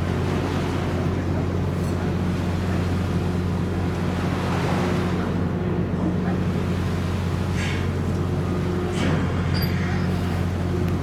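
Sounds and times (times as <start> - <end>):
ship diesel machinery drone: 0.0 - 11.0.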